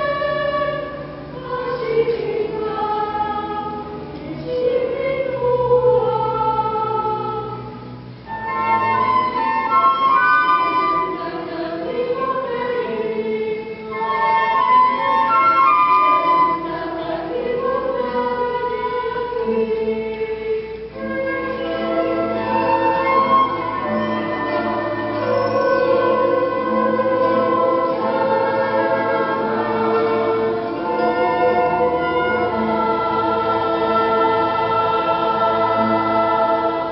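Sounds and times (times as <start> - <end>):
choir singing sustained chords: 0.0 - 36.9.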